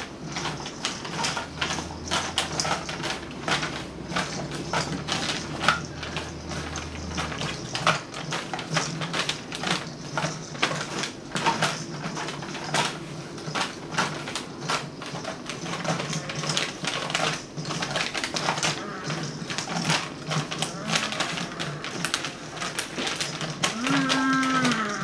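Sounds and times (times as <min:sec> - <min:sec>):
kittens scampering on hardwood floor: 0:00.0 - 0:25.0
paper bag rustling: 0:00.0 - 0:25.0.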